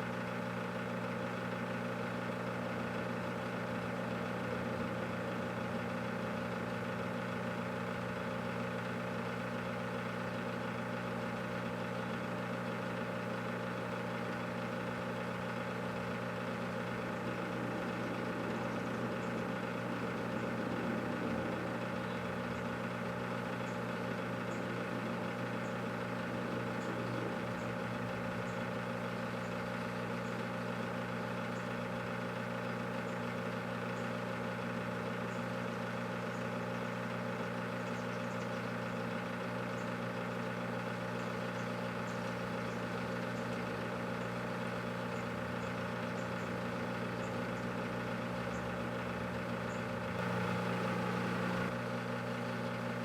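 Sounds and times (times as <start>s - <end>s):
microwave oven hum and fan: 0.0s - 53.0s.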